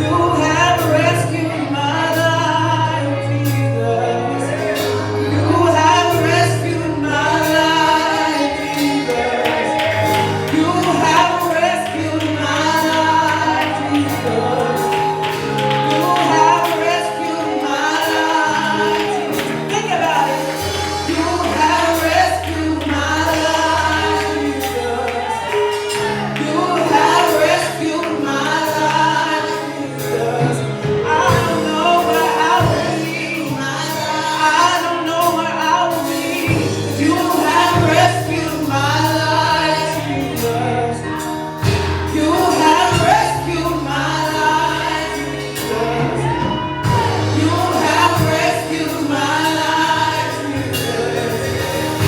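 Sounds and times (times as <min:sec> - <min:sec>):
gospel voices singing: 0:00.0 - 0:52.0
held bass notes: 0:00.0 - 0:52.0
steady drum beat: 0:07.2 - 0:52.0.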